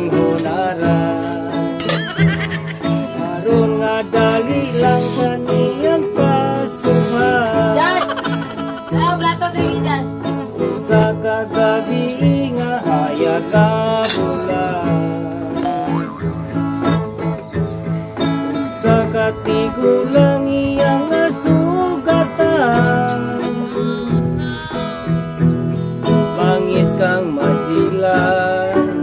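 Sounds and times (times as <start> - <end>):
man singing: 0.0 - 9.0, 10.4 - 16.3, 18.6 - 29.0
acoustic guitar strumming: 0.0 - 29.0.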